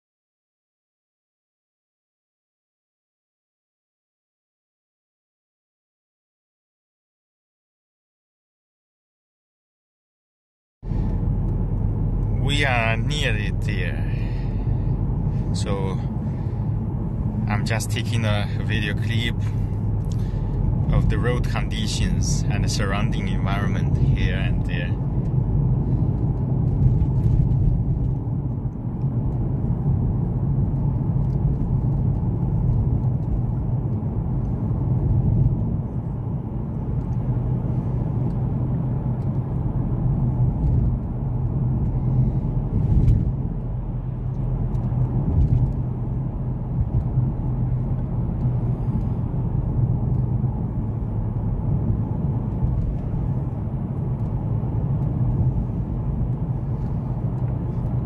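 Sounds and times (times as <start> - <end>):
car engine hum: 10.8 - 58.0
tyre road rumble: 10.8 - 58.0.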